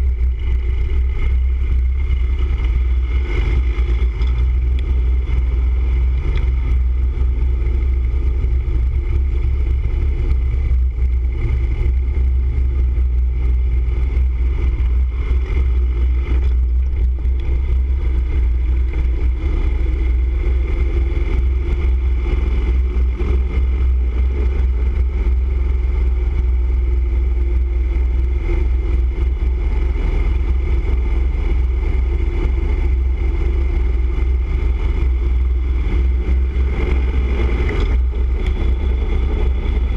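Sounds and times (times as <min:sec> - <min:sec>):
motorcycle engine and road rumble: 0:00.0 - 0:39.9.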